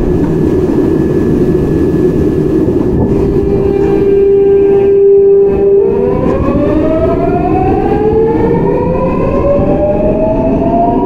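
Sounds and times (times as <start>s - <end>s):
train inverter whining: 0.0s - 11.0s
wheels rumbling on rails: 0.0s - 11.0s.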